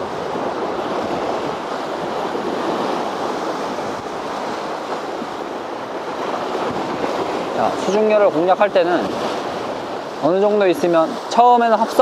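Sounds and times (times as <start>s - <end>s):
sea waves washing in: 0.0s - 12.0s
strong wind: 0.0s - 12.0s.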